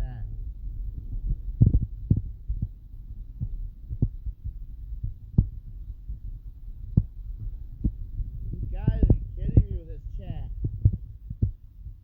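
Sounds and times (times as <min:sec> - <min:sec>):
wind buffeting microphone: 0:00.0 - 0:12.0
short irregular thumps: 0:00.9 - 0:12.0.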